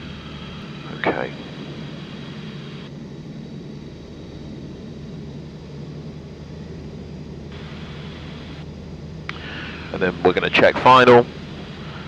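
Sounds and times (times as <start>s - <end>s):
airflow hiss in cockpit: 0.0s - 12.0s
light aircraft engine hum: 0.0s - 12.0s.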